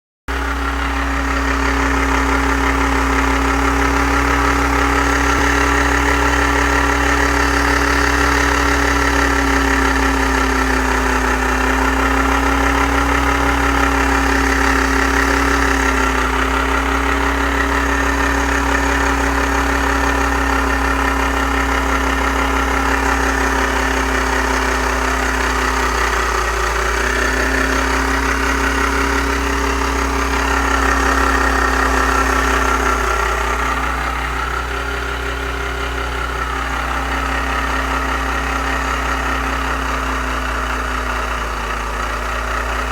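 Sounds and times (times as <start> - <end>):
car engine idling: 0.3 - 42.9
unusual engine noise: 0.3 - 42.9.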